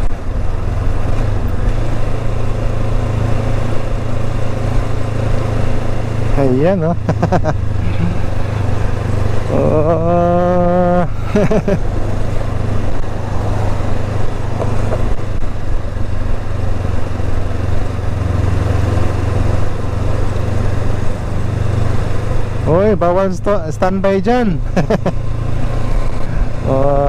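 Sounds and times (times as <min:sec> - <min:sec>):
motorcycle engine running: 0:00.0 - 0:27.0
road and wind noise: 0:00.0 - 0:27.0.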